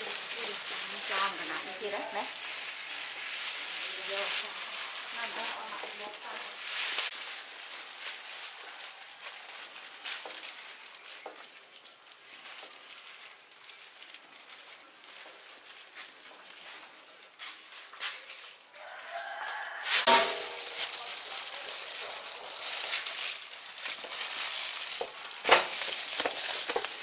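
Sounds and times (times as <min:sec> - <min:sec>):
plastic bags rustling: 0:00.0 - 0:27.0.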